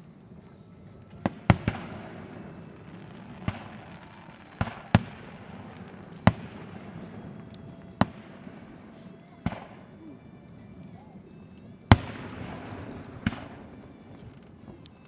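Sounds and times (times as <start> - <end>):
echoing rumble: 0.0 - 14.8
fireworks bursting with bangs: 0.0 - 15.0.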